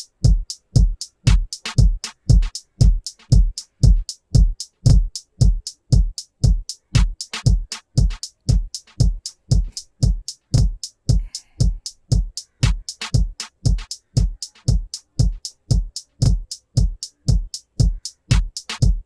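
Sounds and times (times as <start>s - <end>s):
deep kick drum: 0.0s - 19.0s
hi-hat and snare hits: 0.0s - 19.0s.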